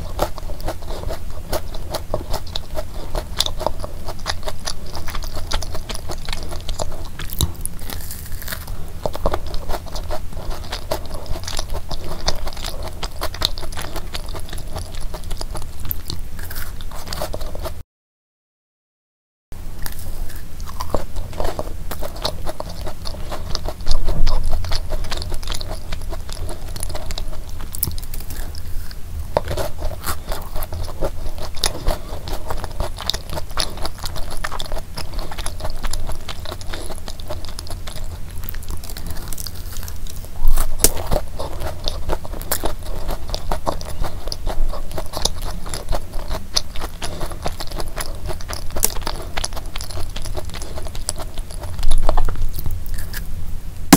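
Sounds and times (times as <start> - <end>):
cookie chewing: 0.0 - 17.8, 19.7 - 53.3.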